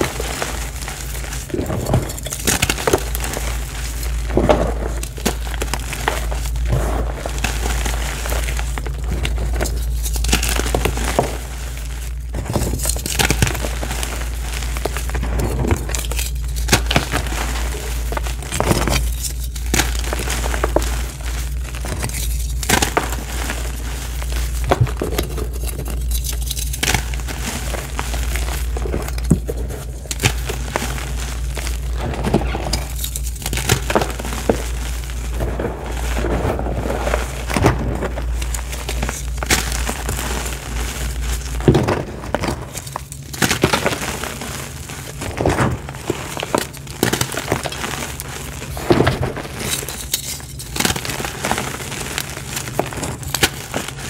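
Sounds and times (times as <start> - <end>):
low hum: 0.0 - 54.0
powder blocks crunching: 0.0 - 54.0.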